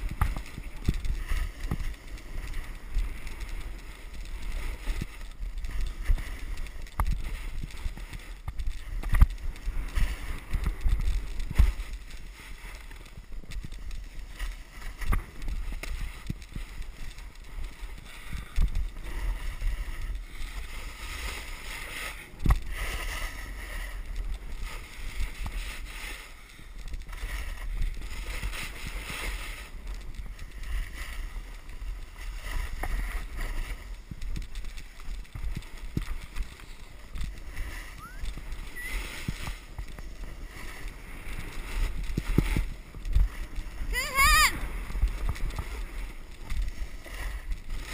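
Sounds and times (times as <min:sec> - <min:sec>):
skis scraping over snow: 0:00.0 - 0:47.9
wind rumbling on microphone: 0:00.0 - 0:47.9.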